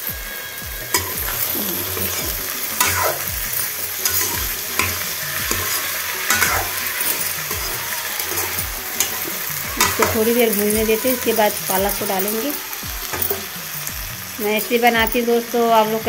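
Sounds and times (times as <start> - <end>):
vegetables sizzling in hot oil: 0.0 - 16.0
metal ladle scraping and clinking: 0.9 - 14.8.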